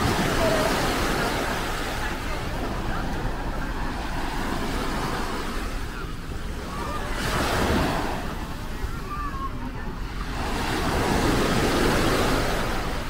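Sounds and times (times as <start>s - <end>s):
small waves breaking on sand: 0.0s - 13.0s.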